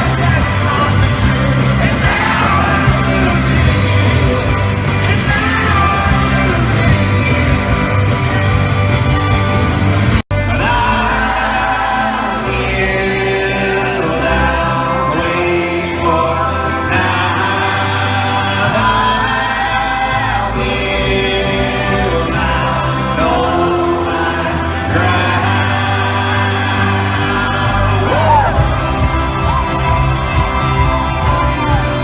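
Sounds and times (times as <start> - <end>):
voices singing in a choir: 0.0 - 8.6, 10.4 - 32.0
sustained band instruments: 0.0 - 32.0.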